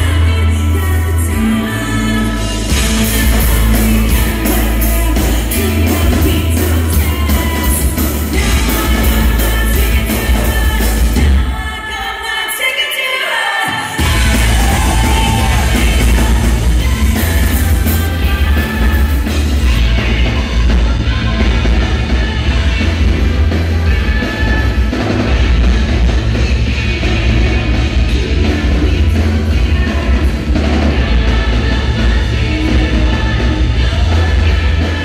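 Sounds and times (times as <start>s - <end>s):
live rock band through pa: 0.0s - 35.0s
woman singing: 0.0s - 35.0s.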